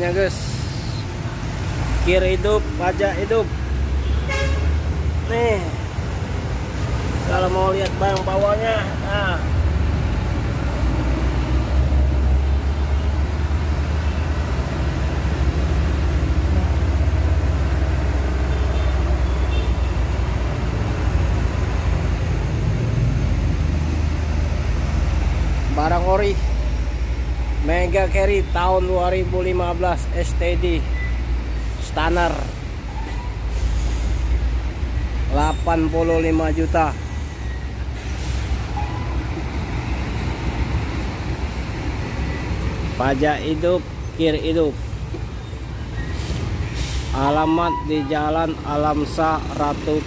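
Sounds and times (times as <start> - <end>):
heavy truck on road: 0.0 - 50.0
vehicle engines rumbling: 0.0 - 50.0.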